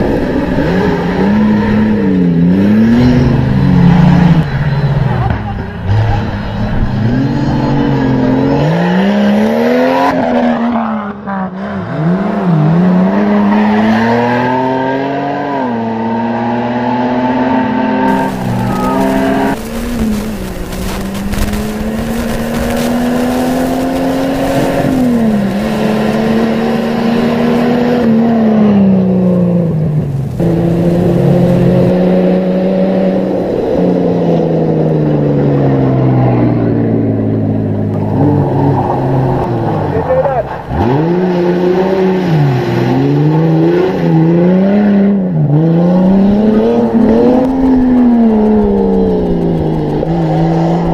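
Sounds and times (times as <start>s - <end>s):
race vehicle engine revving: 0.0s - 50.9s.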